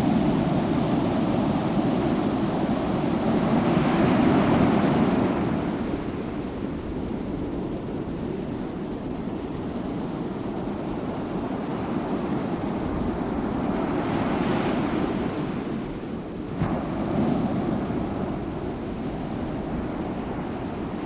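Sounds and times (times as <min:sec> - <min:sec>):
sea waves breaking: 0:00.0 - 0:07.7, 0:10.9 - 0:21.0.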